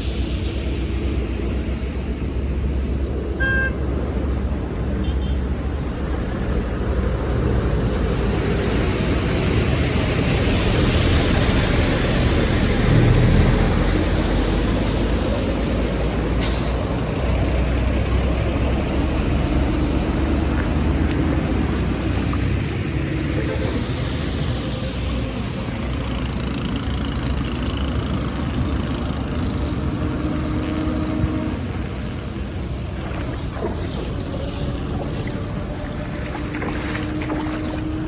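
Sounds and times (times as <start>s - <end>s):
water rushing with deep rumble: 0.0s - 38.0s.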